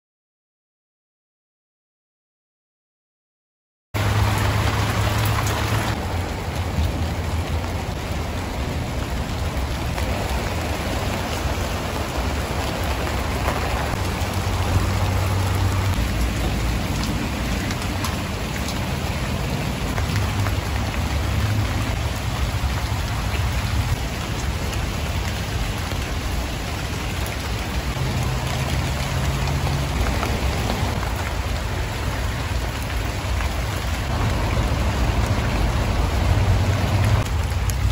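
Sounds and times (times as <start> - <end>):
rain pattering on plants: 4.0 - 37.9.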